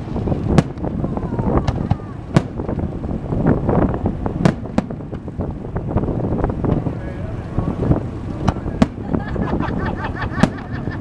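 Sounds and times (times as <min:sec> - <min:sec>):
fireworks exploding: 0:00.0 - 0:07.0, 0:07.8 - 0:11.0
low rumble: 0:00.0 - 0:11.0.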